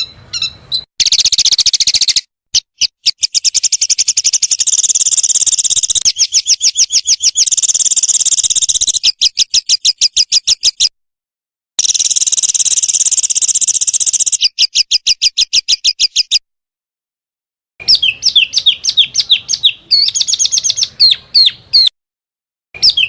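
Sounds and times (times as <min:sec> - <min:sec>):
songbird rapid high trill: 0:00.0 - 0:10.9, 0:11.8 - 0:16.4, 0:17.8 - 0:22.0.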